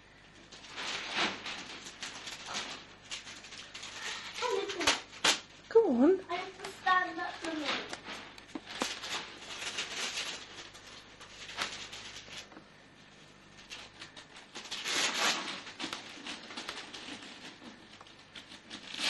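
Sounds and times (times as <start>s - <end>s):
wrapping paper rustling: 0.0s - 19.0s.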